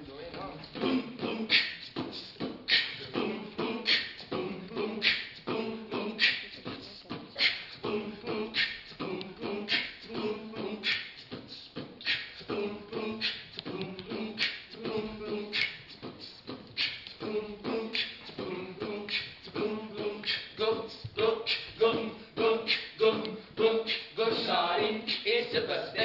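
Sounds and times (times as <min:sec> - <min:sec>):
pitched vocal line: 0:00.0 - 0:26.0
beatboxing percussive hits: 0:00.3 - 0:26.0.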